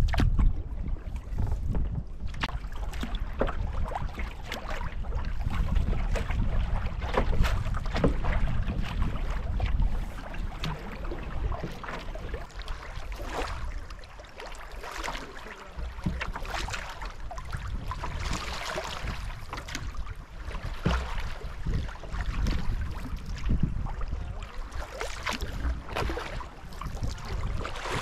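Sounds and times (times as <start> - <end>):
wind buffeting microphone: 0.0 - 14.0, 15.7 - 28.0
water splashing against canoe hull: 0.0 - 28.0.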